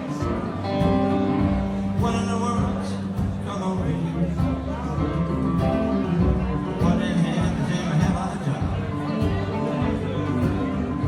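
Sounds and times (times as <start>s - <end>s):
live country-rock band: 0.0s - 11.0s.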